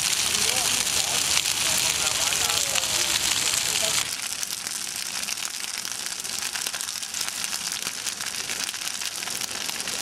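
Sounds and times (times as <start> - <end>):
bonfire crackling: 0.0 - 10.0.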